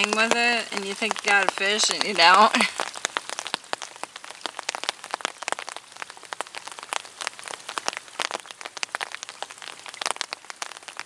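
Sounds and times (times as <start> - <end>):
rain on water surface: 0.0 - 11.0
rain pattering on an umbrella: 0.0 - 11.0.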